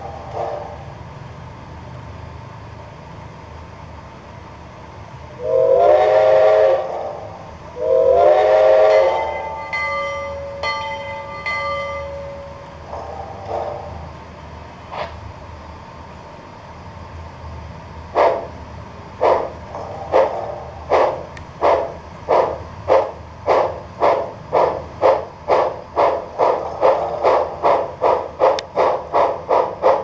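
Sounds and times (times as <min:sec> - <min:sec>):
steam locomotive exhaust chuffs: 0:00.0 - 0:30.0.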